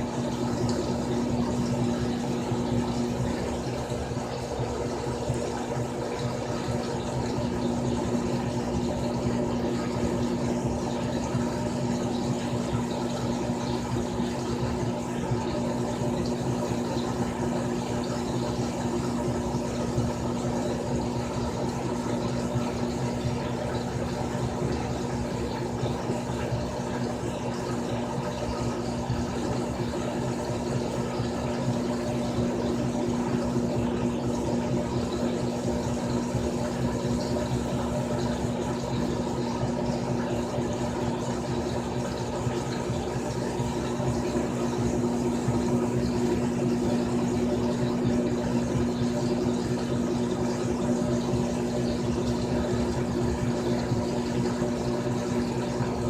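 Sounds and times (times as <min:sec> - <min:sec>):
washing machine motor humming: 0:00.0 - 0:56.0.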